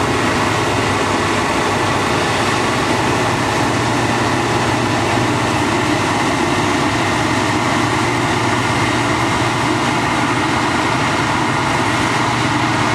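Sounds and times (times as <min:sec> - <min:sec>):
forage harvester engine droning: 0:00.0 - 0:12.9.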